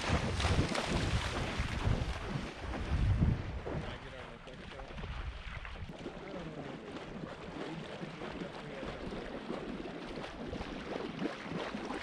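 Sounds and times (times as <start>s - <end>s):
dog splashing through water: 0.0s - 3.8s, 4.5s - 12.0s.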